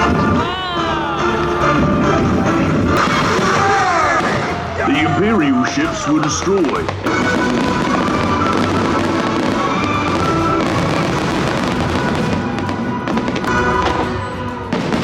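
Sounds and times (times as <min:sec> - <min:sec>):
fireworks crackling: 0:00.0 - 0:15.0
music soundtrack: 0:00.0 - 0:15.0.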